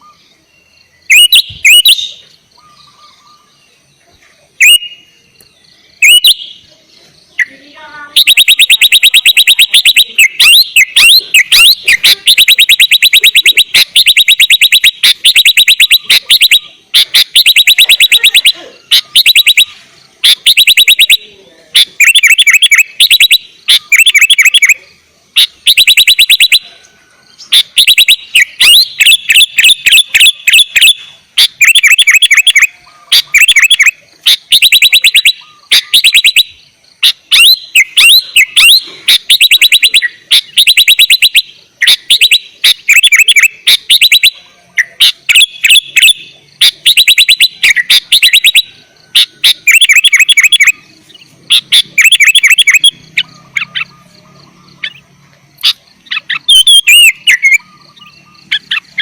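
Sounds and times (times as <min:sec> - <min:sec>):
bird singing chattering notes: 0:00.0 - 0:59.0.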